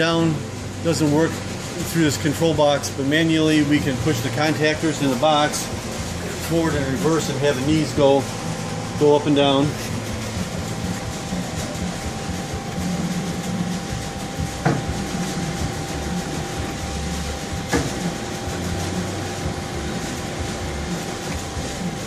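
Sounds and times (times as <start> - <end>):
mill motor running: 0.0 - 22.0.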